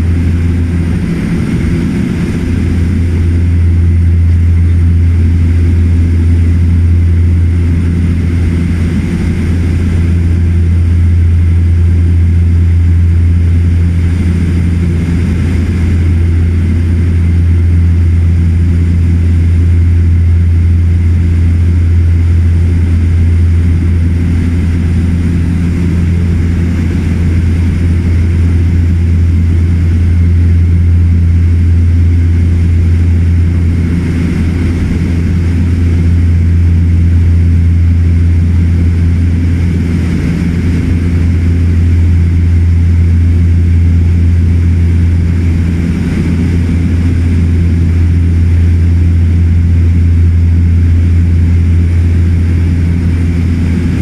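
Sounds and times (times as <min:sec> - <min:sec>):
turboprop engines drone in cabin: 0:00.0 - 0:54.0.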